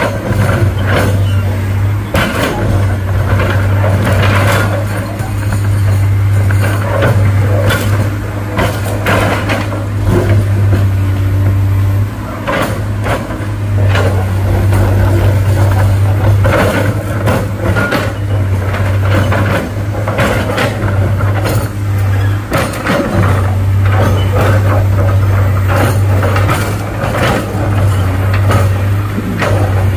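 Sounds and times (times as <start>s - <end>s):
heavy vehicle engine running: 0.0s - 29.9s
knocks and clanks: 0.0s - 29.9s.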